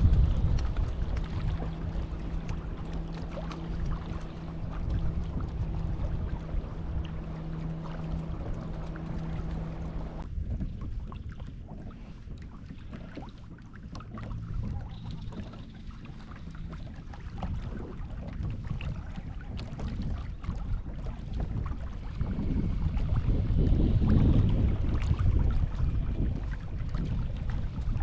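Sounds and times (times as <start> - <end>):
steady low hum: 0.0 - 28.0
water splashing against kayak: 0.0 - 28.0
wind on microphone: 0.0 - 28.0.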